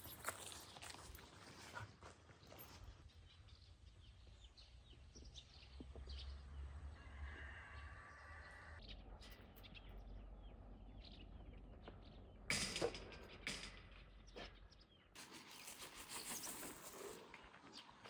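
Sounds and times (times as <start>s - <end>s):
faint rural outdoor ambience: 0.0s - 18.0s.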